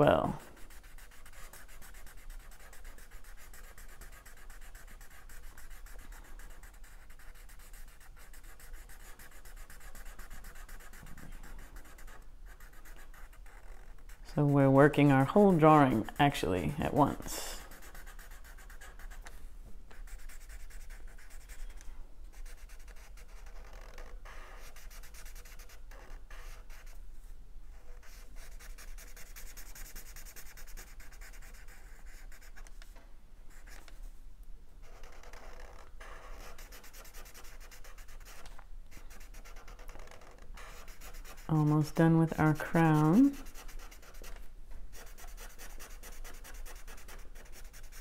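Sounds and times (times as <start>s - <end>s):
marker scratching across paper: 0.0s - 34.1s, 34.8s - 48.0s.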